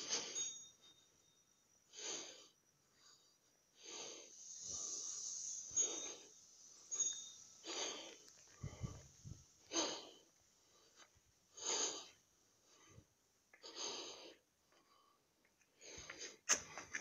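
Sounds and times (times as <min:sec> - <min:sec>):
person breathing: 0:00.0 - 0:01.1, 0:01.9 - 0:17.0.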